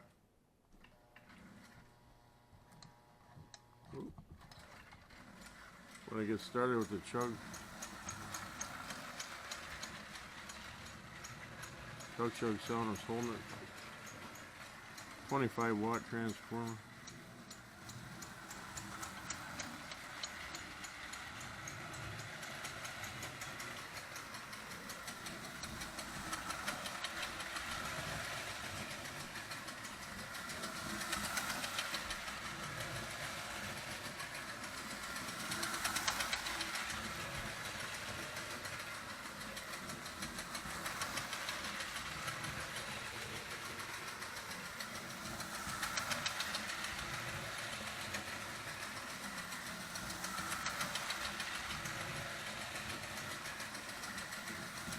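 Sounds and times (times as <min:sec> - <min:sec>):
motor and wheels whirring: 0:00.0 - 0:54.9
toy locomotive chugging rattle: 0:03.9 - 0:54.9.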